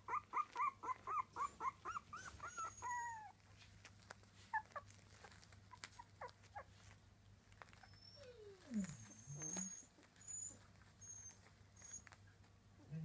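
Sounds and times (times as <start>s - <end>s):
puppies squeaking: 0.0s - 12.5s
paws scratching on pad: 0.0s - 12.8s
puppy whining: 0.0s - 13.0s.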